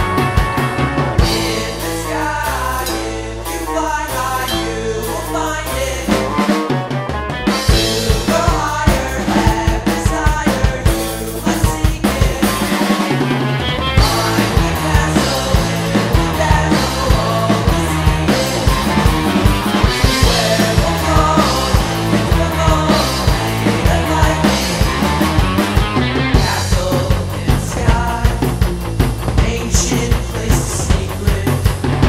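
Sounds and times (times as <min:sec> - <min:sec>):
bass line: 0:00.0 - 0:32.0
drum kit beating: 0:00.0 - 0:32.0
punk rock band playing: 0:00.0 - 0:32.0.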